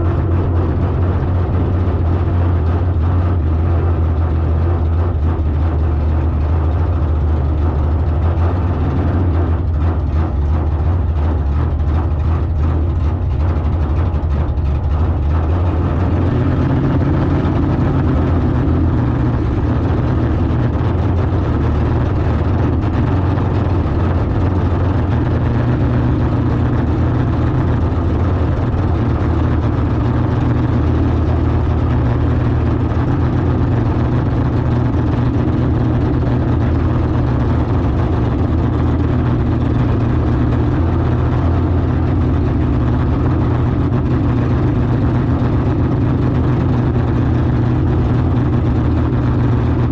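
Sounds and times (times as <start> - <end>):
car engine idling deeply: 0.0 - 49.9.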